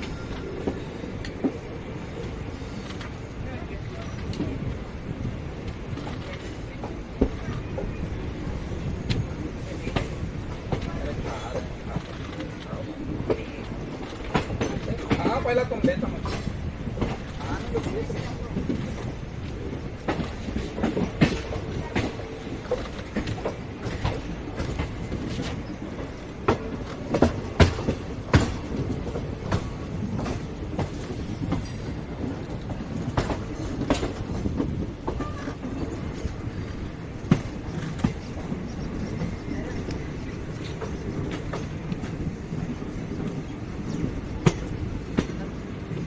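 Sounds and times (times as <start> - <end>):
train coaches rumbling: 0.0 - 46.0
wheels clacking over rail joints: 9.1 - 46.0.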